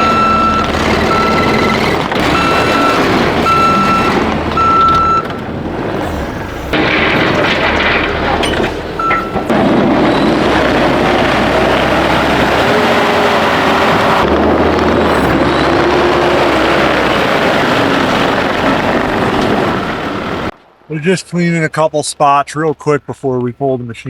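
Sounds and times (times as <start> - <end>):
diesel engine under load: 0.0 - 20.6.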